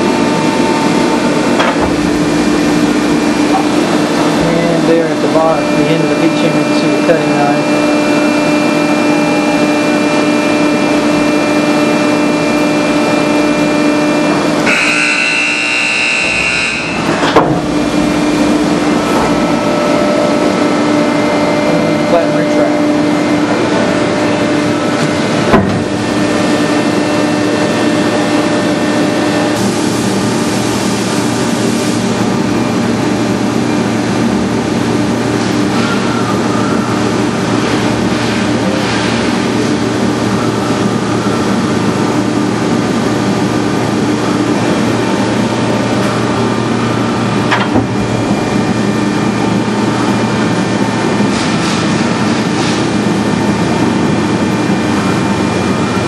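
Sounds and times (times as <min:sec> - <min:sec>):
hydraulic power unit hum: 0:00.0 - 0:56.0.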